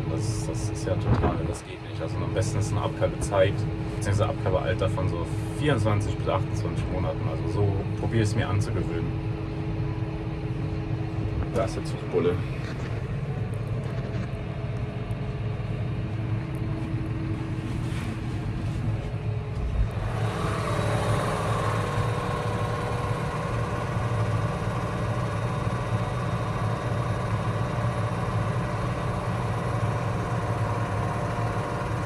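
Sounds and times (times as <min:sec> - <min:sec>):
high whine: 0:00.0 - 0:31.4
tractor engine running: 0:00.0 - 0:32.0.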